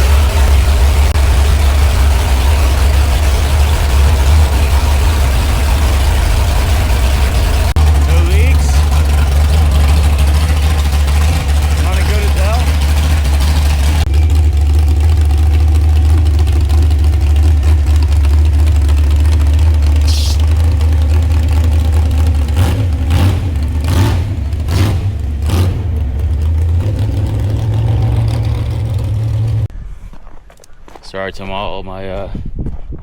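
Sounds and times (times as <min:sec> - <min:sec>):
engine throttle surges: 0:00.0 - 0:29.7
truck engine idling loudly: 0:00.0 - 0:29.7.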